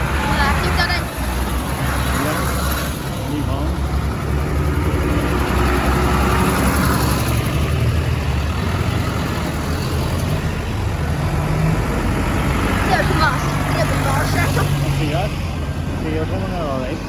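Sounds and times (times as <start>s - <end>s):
tractor diesel engines droning: 0.0s - 17.0s.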